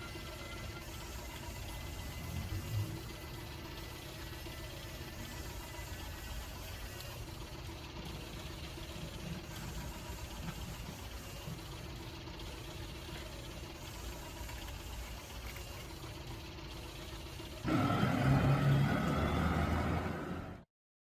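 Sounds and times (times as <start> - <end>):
loud steady pitched tones: 0.0 - 14.2, 16.8 - 20.6
low engine-like rumble: 0.0 - 20.7.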